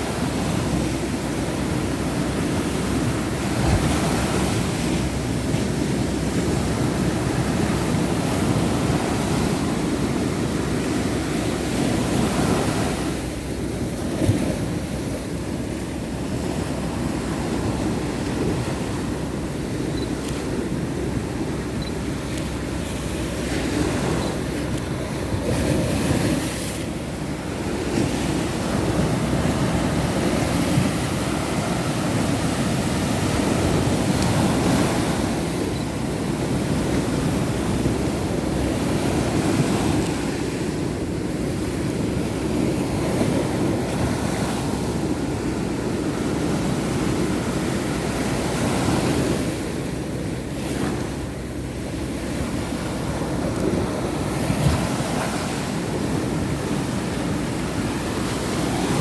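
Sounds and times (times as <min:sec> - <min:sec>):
sea waves on beach: 0:00.0 - 0:59.0
wind on microphone: 0:00.0 - 0:59.0.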